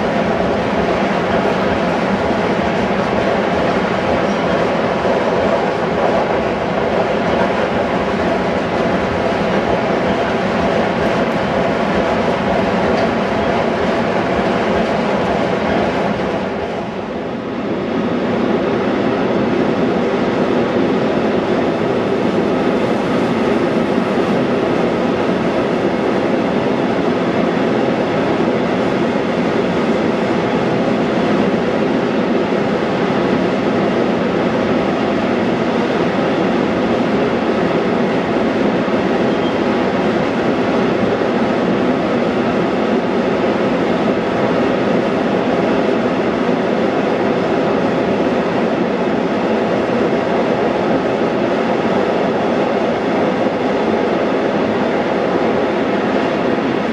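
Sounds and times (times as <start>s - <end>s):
freight train wheels on rails: 0.0s - 56.9s.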